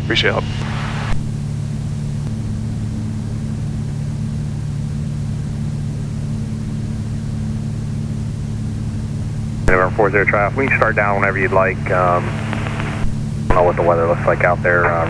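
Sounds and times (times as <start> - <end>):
twin propeller engines drone: 0.0 - 15.0.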